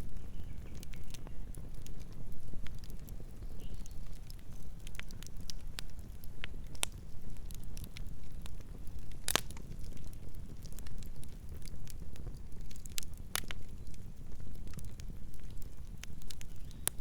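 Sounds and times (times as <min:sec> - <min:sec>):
campfire flames rumbling: 0:00.0 - 0:17.0
fire crackling and popping: 0:00.0 - 0:17.0.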